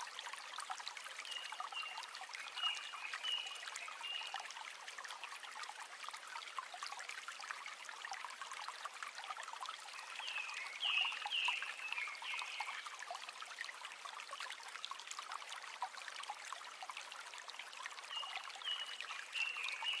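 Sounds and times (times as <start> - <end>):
water trickling over stones: 0.0 - 20.0.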